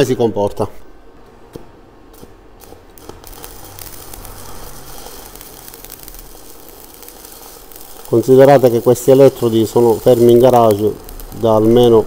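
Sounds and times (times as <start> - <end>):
welding arc crackling hiss: 2.1 - 12.0.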